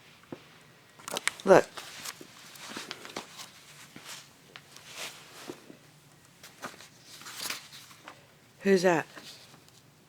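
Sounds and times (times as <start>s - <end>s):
faint rustles and light taps: 0.2s - 8.3s, 9.1s - 9.9s.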